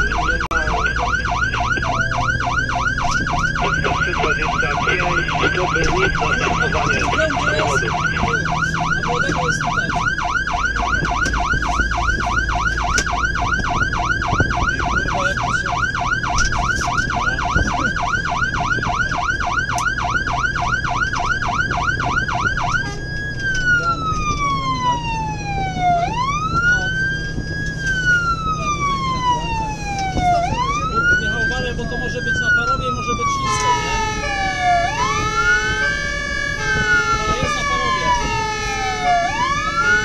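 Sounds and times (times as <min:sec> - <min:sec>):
fire engine siren: 0:00.0 - 0:40.0
truck engine and road noise: 0:00.0 - 0:40.0.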